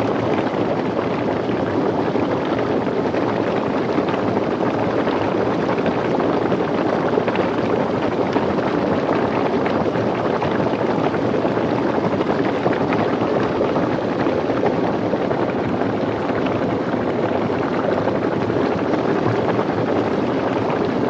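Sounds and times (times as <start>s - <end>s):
water bubbling rapidly: 0.0s - 21.0s.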